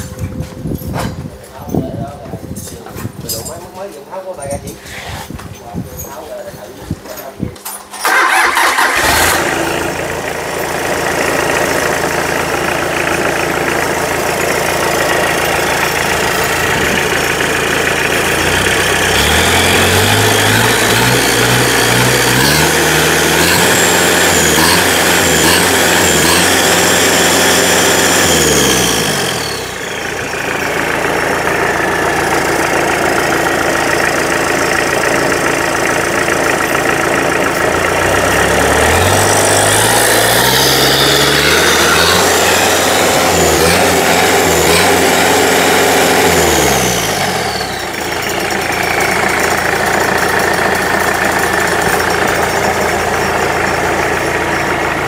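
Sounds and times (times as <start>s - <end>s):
diesel engine starting and idling: 7.9s - 55.0s
engine revving: 8.0s - 55.0s.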